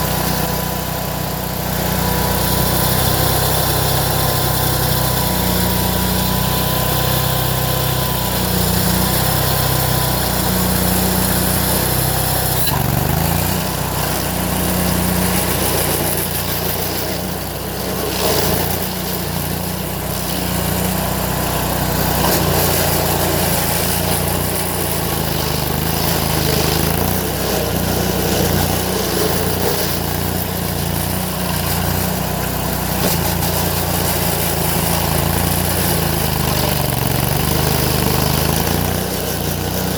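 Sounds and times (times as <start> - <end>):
stump grinder engine grinding: 0.0 - 39.9.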